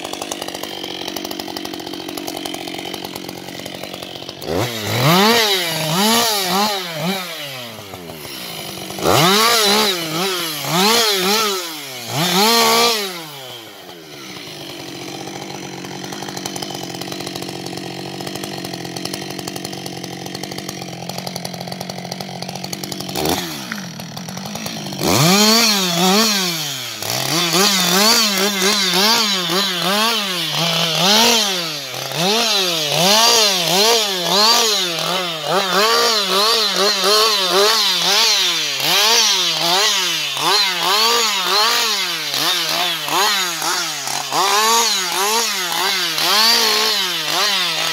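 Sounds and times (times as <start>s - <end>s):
chainsaw revving and idling: 0.0s - 47.9s.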